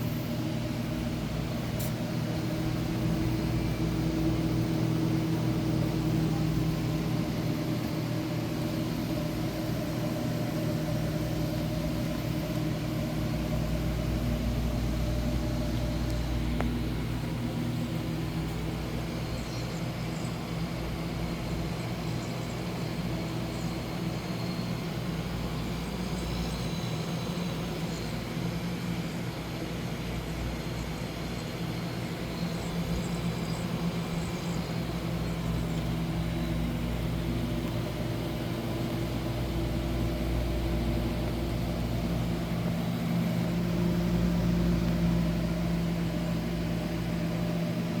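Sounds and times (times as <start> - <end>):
refrigerator hum: 0.0 - 48.0.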